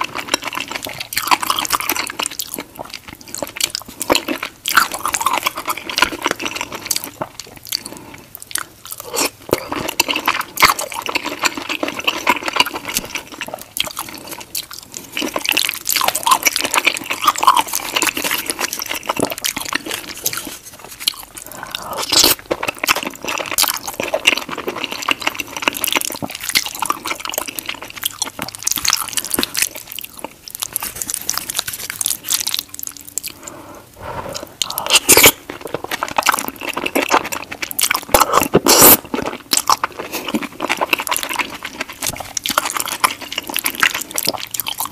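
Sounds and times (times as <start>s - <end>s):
wet chewing and slurping: 0.0s - 44.9s.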